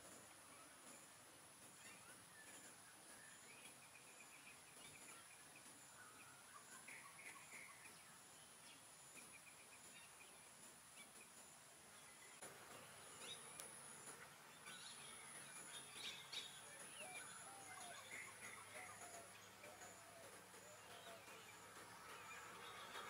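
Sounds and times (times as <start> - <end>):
small chirping calls: 0.0 - 23.0
steady high-pitched whine: 0.0 - 23.0.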